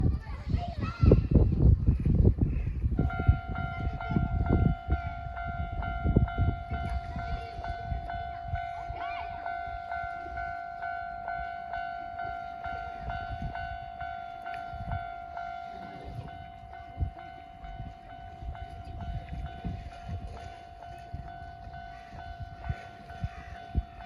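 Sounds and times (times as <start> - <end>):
level crossing bell ringing: 3.0 - 24.0.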